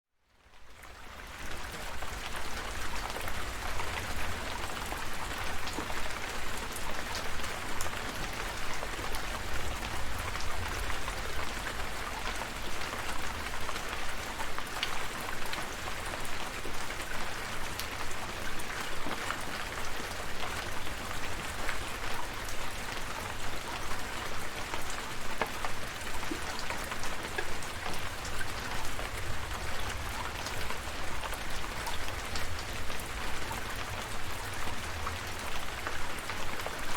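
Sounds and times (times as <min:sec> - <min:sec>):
steady rain: 0:00.2 - 0:36.9.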